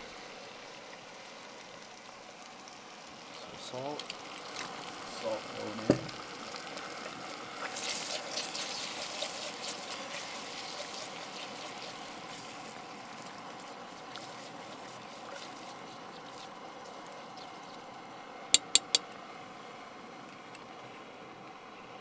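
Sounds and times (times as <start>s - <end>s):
noodles sizzling in oil: 0.0s - 22.0s
oil crackling and popping: 0.2s - 19.2s.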